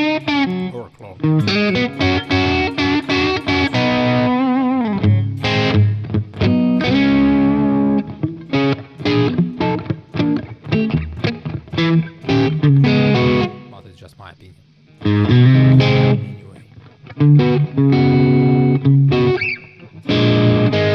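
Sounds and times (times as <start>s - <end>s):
overdriven electric guitar lead: 0.0s - 13.8s, 14.9s - 20.9s.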